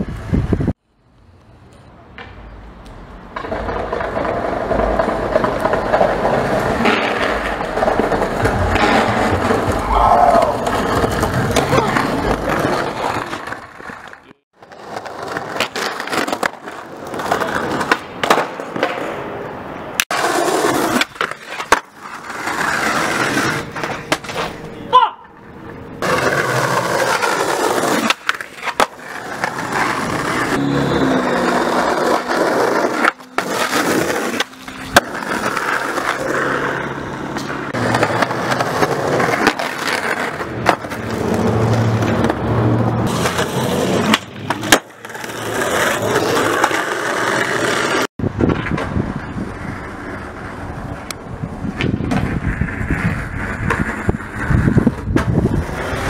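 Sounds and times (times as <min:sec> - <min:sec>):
skateboard wheels rolling on concrete: 0:00.0 - 0:56.0
skateboard popping and landing: 0:01.7 - 0:25.4, 0:26.0 - 0:56.0.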